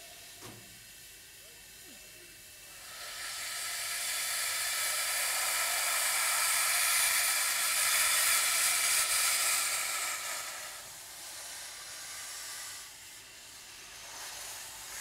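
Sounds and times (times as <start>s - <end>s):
steam hissing loudly: 0.0s - 15.0s.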